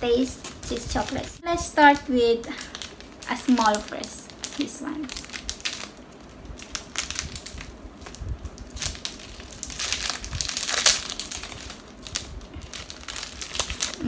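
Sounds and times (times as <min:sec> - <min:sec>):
wrapper crinkling: 0:00.0 - 0:14.0.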